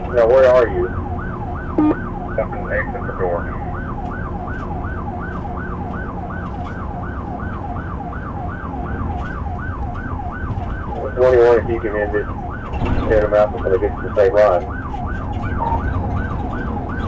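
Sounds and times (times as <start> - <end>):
police siren yelping: 0.0 - 17.0
road and engine noise: 0.0 - 17.0.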